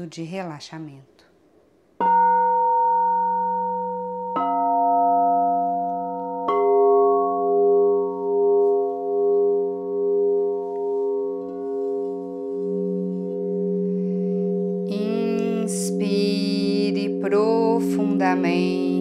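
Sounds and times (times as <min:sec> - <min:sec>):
singing bowls ringing: 0:02.1 - 0:19.0.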